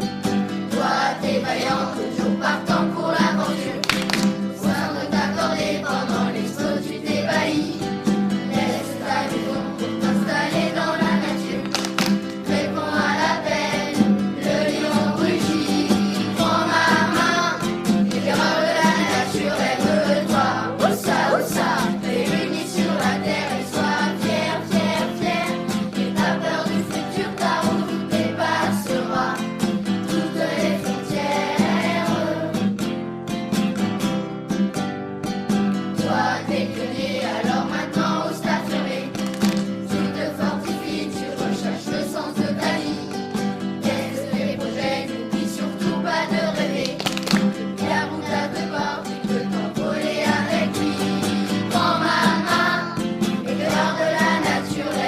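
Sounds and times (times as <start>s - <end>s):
instrumental accompaniment: 0.0s - 55.0s
strummed acoustic guitar: 0.0s - 55.0s
group of voices singing: 0.6s - 32.7s, 36.0s - 55.0s.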